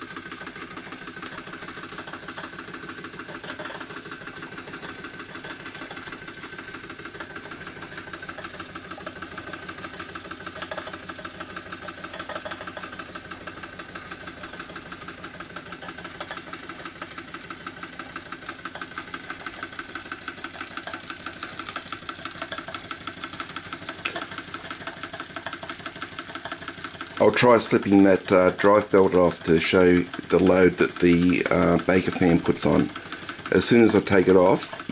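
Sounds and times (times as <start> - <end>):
small model engine running: 0.0 - 34.9.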